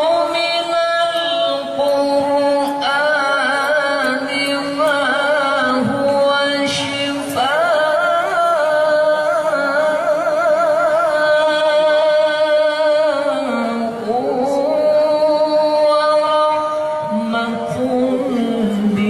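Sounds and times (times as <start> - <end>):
melodic chanted recitation: 0.0 - 19.0.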